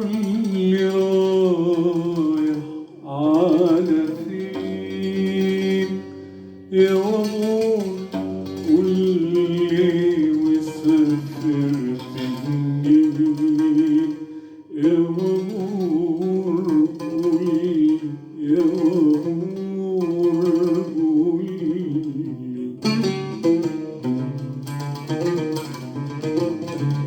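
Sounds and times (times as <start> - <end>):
plucked string instrumental music: 0.0 - 27.0.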